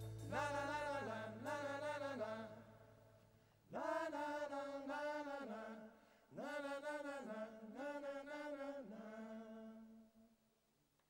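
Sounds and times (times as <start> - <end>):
male vocal group singing: 0.0 - 2.8, 3.7 - 10.0.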